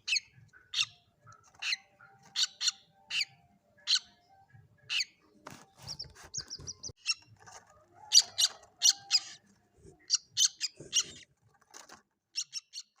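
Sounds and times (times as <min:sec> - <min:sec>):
chicks high-pitched peeping: 0:00.0 - 0:13.0.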